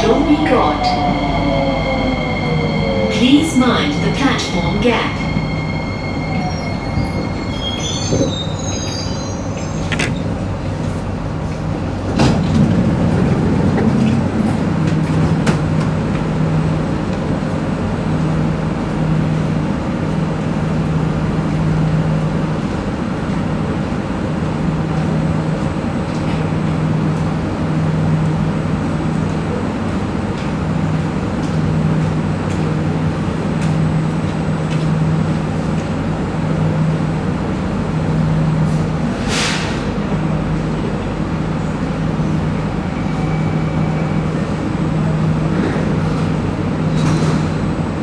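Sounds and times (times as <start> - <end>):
train humming at a platform: 0.0 - 48.0.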